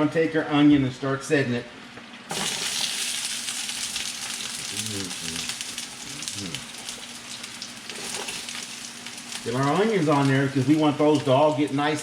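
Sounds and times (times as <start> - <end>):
onions sizzling in hot oil: 2.3 - 12.0.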